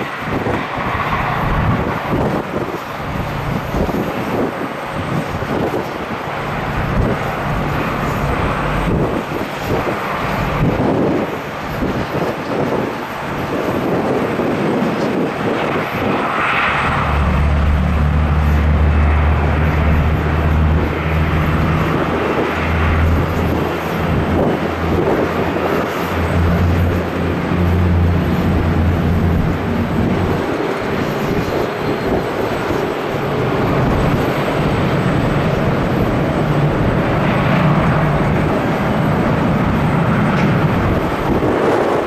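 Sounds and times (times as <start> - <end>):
steady low drone: 0.0 - 12.5, 14.3 - 42.0
jet engines rushing: 0.0 - 42.0.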